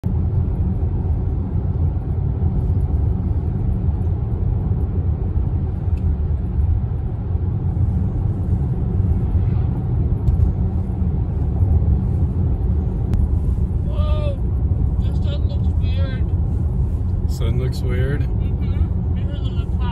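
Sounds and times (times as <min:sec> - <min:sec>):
car cabin road rumble: 0:00.0 - 0:19.9.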